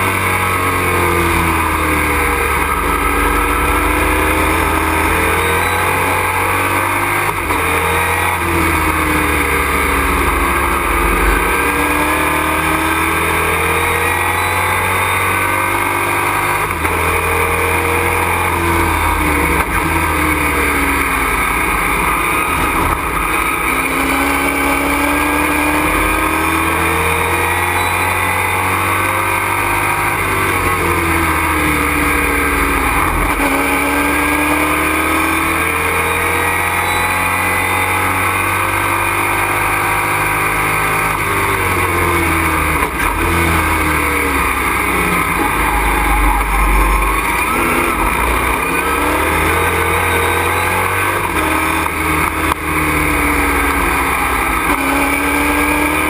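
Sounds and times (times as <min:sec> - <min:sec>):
cabin and road noise: 0:00.0 - 0:56.0
race truck engine revving: 0:00.0 - 0:56.0.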